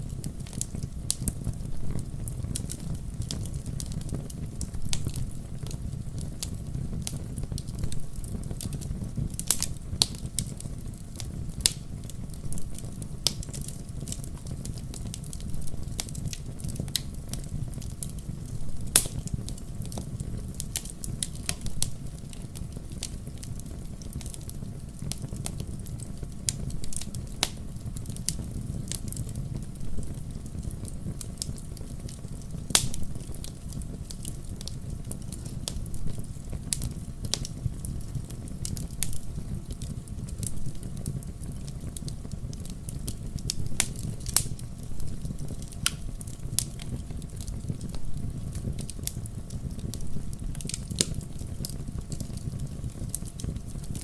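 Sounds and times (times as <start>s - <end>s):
campfire flames rumbling: 0.0s - 54.0s
fire crackles and pops: 0.0s - 54.0s.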